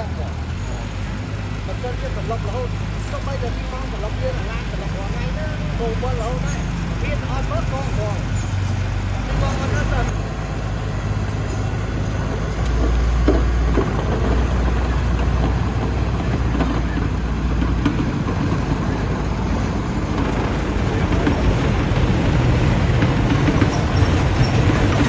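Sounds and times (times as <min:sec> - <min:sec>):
diesel engine deep hum: 0:00.0 - 0:25.0
machinery rumble: 0:00.0 - 0:25.0.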